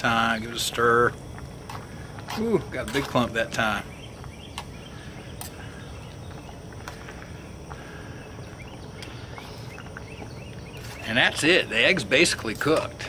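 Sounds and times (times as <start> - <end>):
camp stove hiss: 0.0 - 13.0
faint chirping: 1.9 - 12.6.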